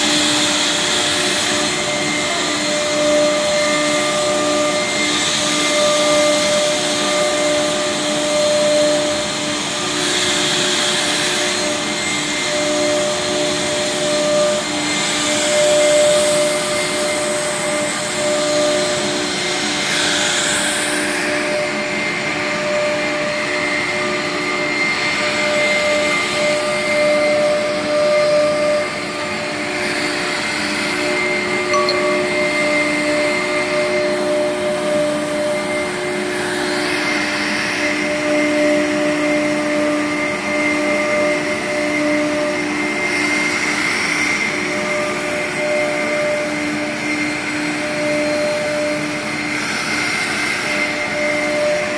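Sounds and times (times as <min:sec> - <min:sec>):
cnc router whine and roar: 0:00.0 - 0:51.9.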